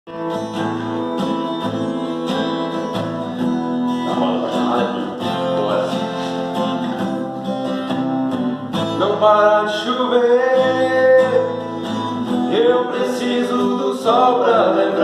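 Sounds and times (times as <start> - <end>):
guitar-led band music: 0.1 - 15.0.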